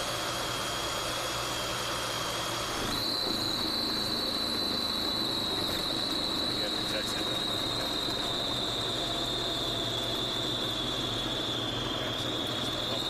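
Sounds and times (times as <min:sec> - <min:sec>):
high-pitched whine: 0:00.0 - 0:13.0
propeller airplane engine idling: 0:00.0 - 0:13.0.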